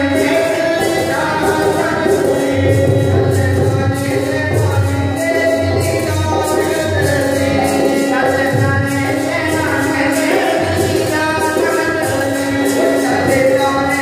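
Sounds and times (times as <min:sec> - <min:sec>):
hand drum beat: 0:00.0 - 0:14.0
harmonium: 0:00.0 - 0:14.0
men singing: 0:00.0 - 0:14.0.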